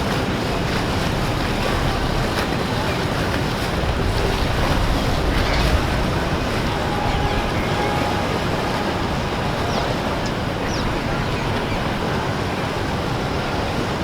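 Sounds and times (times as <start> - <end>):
boats running through water: 0.0 - 14.0
rushing water: 0.0 - 14.0
wind: 0.0 - 14.0.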